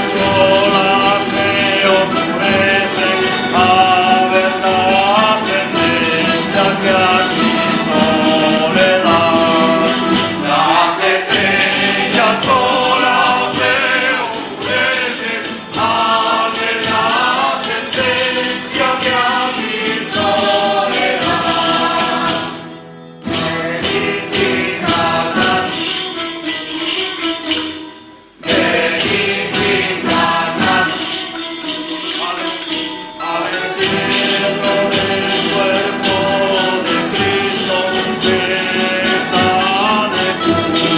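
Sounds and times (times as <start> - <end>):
group singing devotional song: 0.0 - 26.1, 28.4 - 31.3, 33.2 - 40.9
jingling percussion: 0.0 - 40.9.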